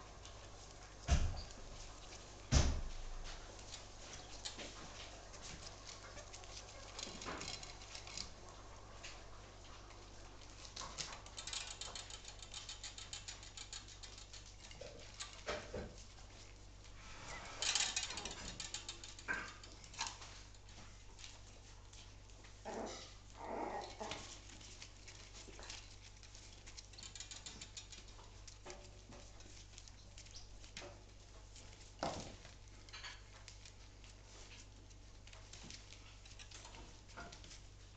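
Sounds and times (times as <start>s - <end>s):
puppy paws scratching paper: 0.0s - 37.9s.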